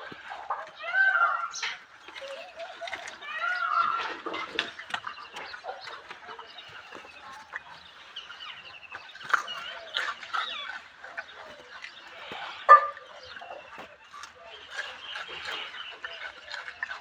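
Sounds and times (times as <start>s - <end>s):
chirping and trilled animal calls: 0.0s - 17.0s.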